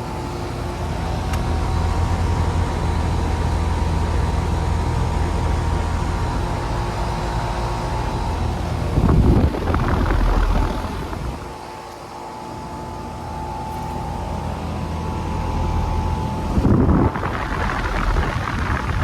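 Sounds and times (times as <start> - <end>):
compressor hum: 0.0 - 19.0
condenser fan rushing: 0.0 - 19.0.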